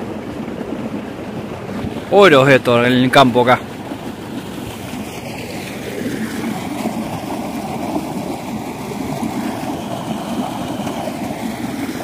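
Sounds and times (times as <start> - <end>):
water gushing into a tank: 0.0 - 12.0.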